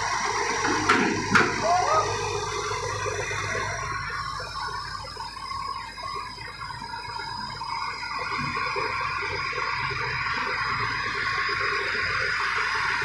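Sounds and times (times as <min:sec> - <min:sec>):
diesel engine idling: 0:00.0 - 0:13.0
thin high whine: 0:00.0 - 0:13.0.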